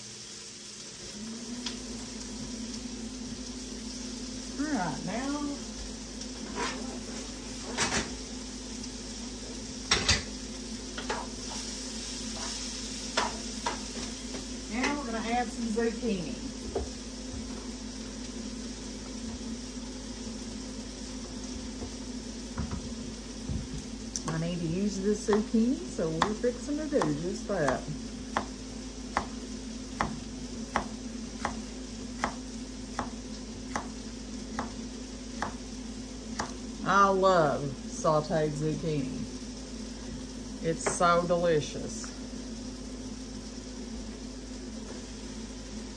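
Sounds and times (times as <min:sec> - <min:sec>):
vegetables sizzling in frying pan: 0:00.0 - 0:45.9
steady low hum: 0:01.1 - 0:45.9.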